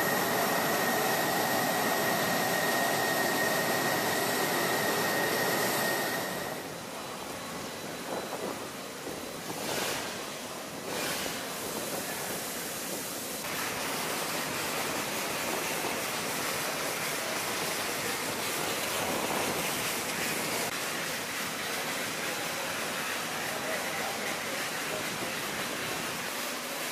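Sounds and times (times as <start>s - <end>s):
water jet spraying hiss: 0.0s - 26.9s.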